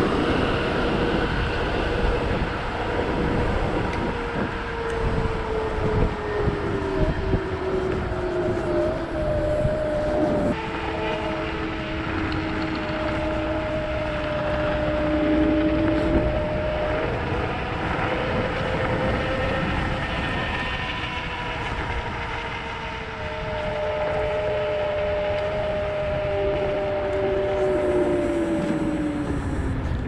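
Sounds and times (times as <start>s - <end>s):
electric scooter motor whine: 0.0s - 30.0s
wind rumble on microphone: 0.0s - 30.0s.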